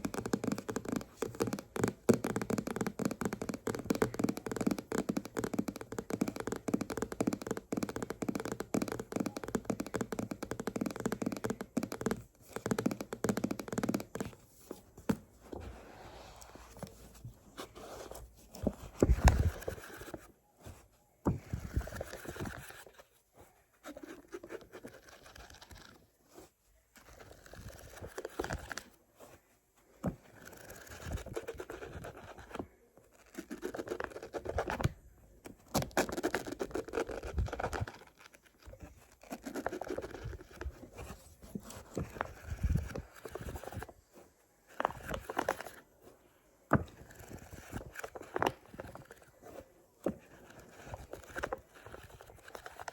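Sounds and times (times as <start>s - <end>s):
fingers tapping on a book: 0.0s - 23.0s, 30.0s - 43.9s, 44.7s - 45.8s, 46.7s - 52.9s.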